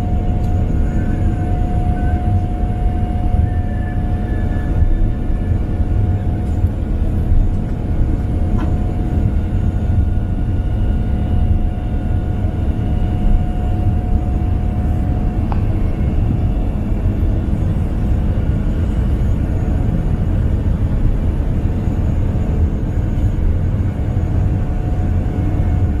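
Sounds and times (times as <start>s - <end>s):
jet engines rumbling: 0.0s - 26.0s
thin steady whine: 0.0s - 26.0s.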